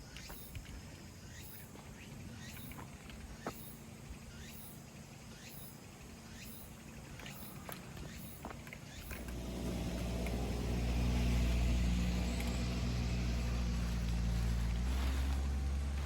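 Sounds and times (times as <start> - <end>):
motorcycle engine idling: 1.3 - 16.0.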